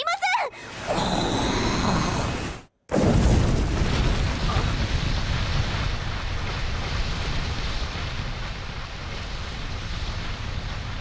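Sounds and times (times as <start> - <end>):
rushing blast of flame: 0.7 - 11.0
deep rumble: 1.0 - 11.0.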